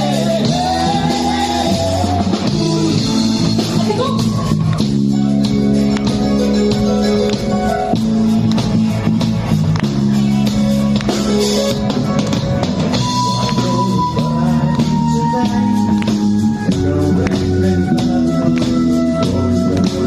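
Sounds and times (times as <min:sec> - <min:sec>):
bass and guitar chords: 0:00.0 - 0:20.0
drum kit beat: 0:00.0 - 0:20.0.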